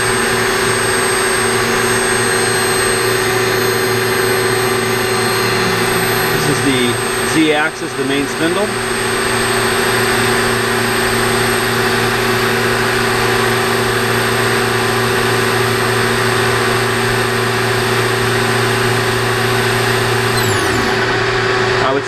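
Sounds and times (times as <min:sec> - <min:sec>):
lathe spindle humming and whining: 0:00.0 - 0:22.0.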